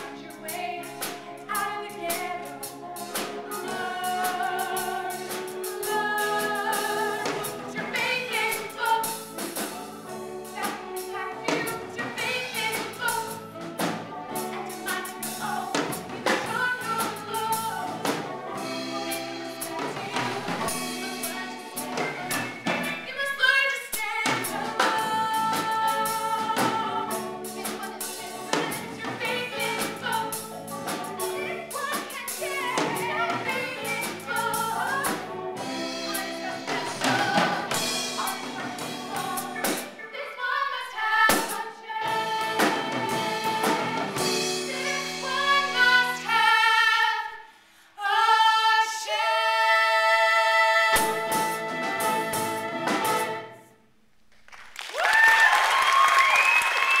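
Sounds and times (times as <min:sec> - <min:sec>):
musical accompaniment: 0:00.0 - 0:40.2, 0:41.0 - 0:47.2, 0:49.2 - 0:53.9
women singing a duet: 0:00.0 - 0:53.6.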